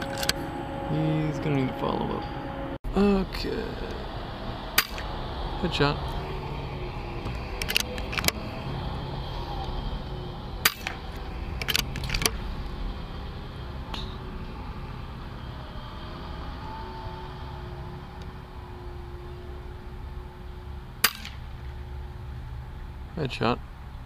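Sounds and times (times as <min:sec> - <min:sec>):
low engine-like hum: 0:00.0 - 0:24.0.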